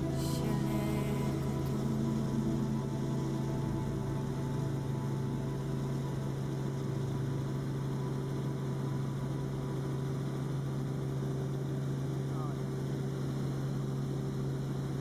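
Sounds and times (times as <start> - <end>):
helicopter engine and rotor droning: 0.0 - 15.0.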